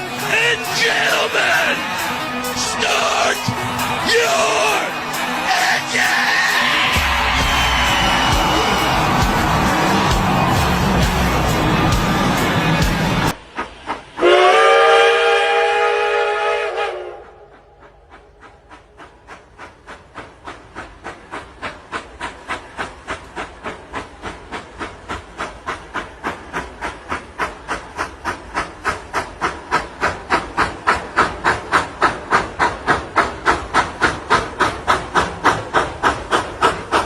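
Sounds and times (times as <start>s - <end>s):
steam locomotive chuffing: 0.0s - 37.0s.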